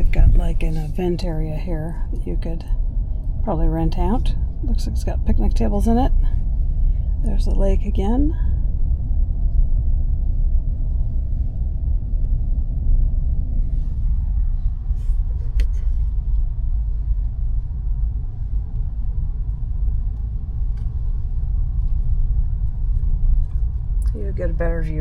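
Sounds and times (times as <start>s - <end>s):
vehicle driving slowly: 0.0s - 25.0s.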